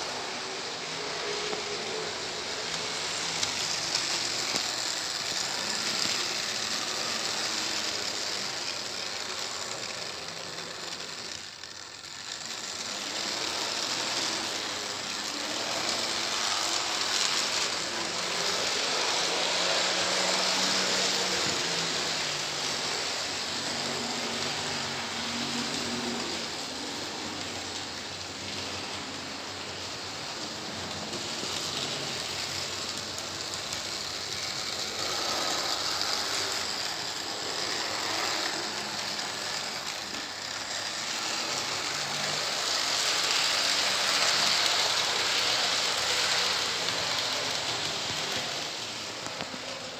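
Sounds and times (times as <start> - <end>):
model train whirring and rattling: 0.0 - 49.9.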